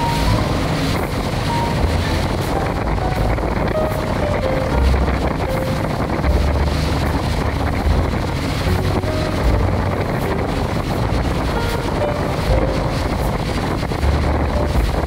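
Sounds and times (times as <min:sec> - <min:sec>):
outboard motor running: 0:00.0 - 0:15.0
water rushing along boat hull: 0:00.0 - 0:15.0
wind buffeting microphone: 0:00.0 - 0:15.0.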